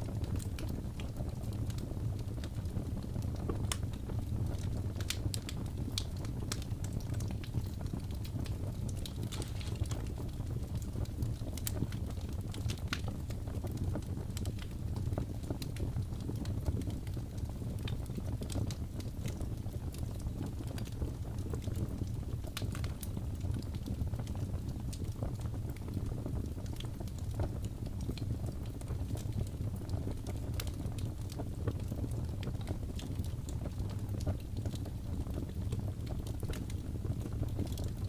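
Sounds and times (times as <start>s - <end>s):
fire crackles and pops: 0.0s - 38.0s
wood fire burning: 0.0s - 38.0s.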